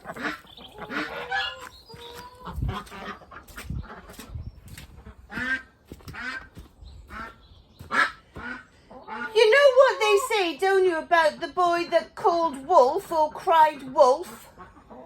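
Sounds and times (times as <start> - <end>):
ducks quacking: 0.0 - 12.2, 13.2 - 15.0.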